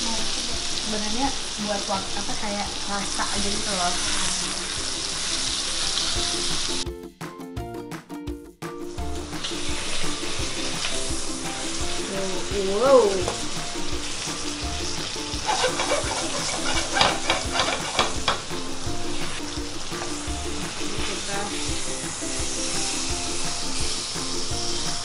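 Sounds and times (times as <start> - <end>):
steak sizzling in frying pan: 0.0 - 6.8, 8.9 - 25.0.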